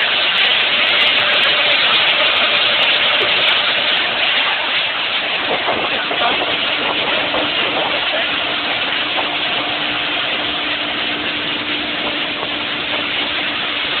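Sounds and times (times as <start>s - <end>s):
speedboat engine drone: 0.0s - 14.0s
water rushing: 0.0s - 14.0s
wind: 0.0s - 14.0s.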